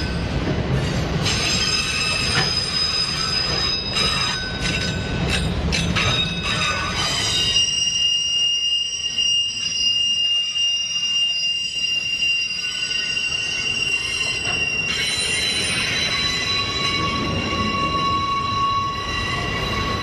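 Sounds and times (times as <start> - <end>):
train rolling rumble: 0.0 - 20.0
train wheels squealing: 0.0 - 20.0.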